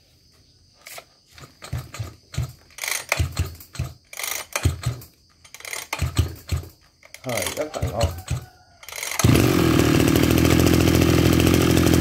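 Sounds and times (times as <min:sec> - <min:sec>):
recoil starter cord pulled: 0:00.8 - 0:12.0
engine turning over: 0:00.9 - 0:12.0.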